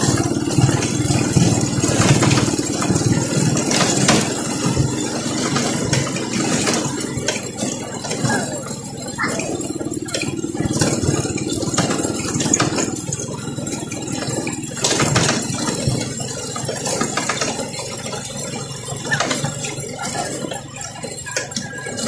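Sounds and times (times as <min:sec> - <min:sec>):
motorcycle engine running: 0:00.0 - 0:22.0
rattling and knocks: 0:00.0 - 0:22.0.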